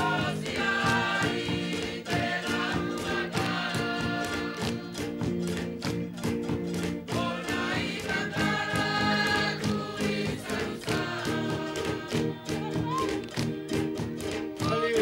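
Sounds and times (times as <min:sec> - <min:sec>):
group singing in harmony: 0:00.0 - 0:05.8, 0:06.5 - 0:12.8, 0:14.6 - 0:15.0.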